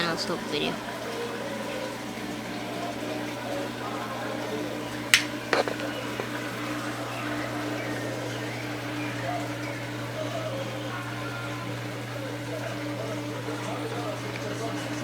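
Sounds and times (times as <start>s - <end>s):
aquarium pump humming: 0.0s - 15.0s
water bubbling: 0.0s - 15.0s.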